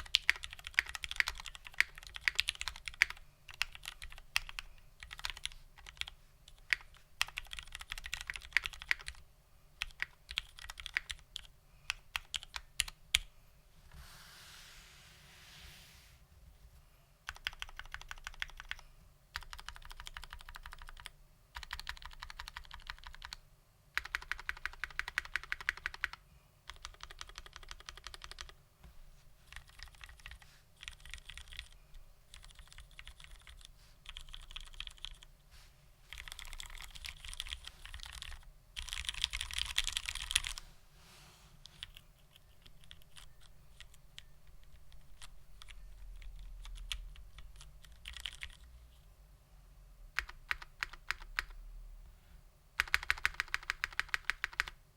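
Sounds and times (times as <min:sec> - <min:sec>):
mechanical keyboard typing: 0:00.0 - 0:09.2, 0:09.8 - 0:13.3, 0:17.3 - 0:23.4, 0:24.0 - 0:28.6, 0:29.5 - 0:35.3, 0:36.1 - 0:40.6, 0:41.6 - 0:48.7, 0:50.1 - 0:51.6, 0:52.8 - 0:54.8.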